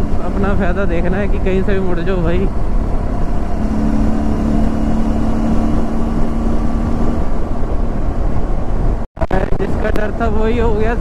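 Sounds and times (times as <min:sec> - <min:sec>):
motorcycle engine and road noise: 0:00.0 - 0:11.0
wind rushing over microphone: 0:00.0 - 0:11.0.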